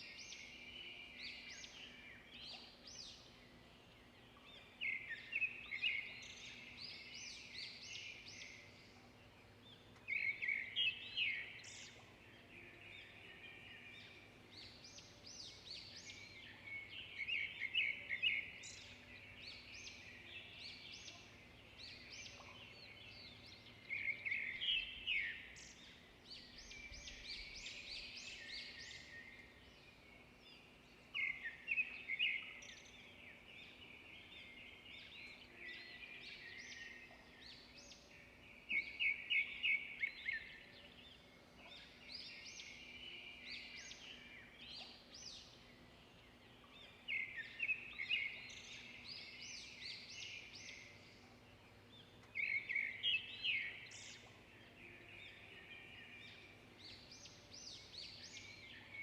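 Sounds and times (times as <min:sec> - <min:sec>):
quiet bird twittering: 0:00.0 - 0:59.0
songbirds chirping: 0:00.0 - 0:59.0.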